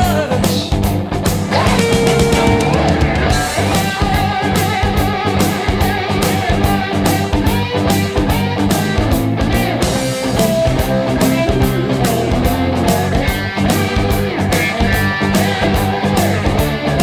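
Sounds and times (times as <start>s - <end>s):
guitar-led rock song: 0.0s - 17.0s.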